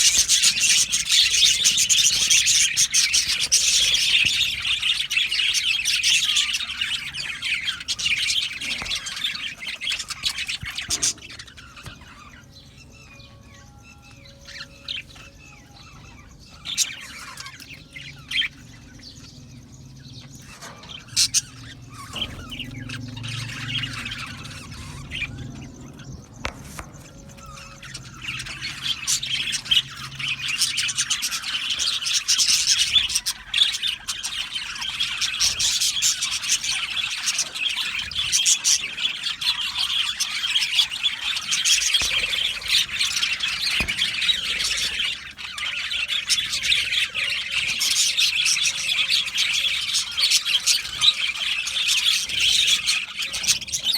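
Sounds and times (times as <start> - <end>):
budgerigars chattering and chirping: 0.0 - 53.9.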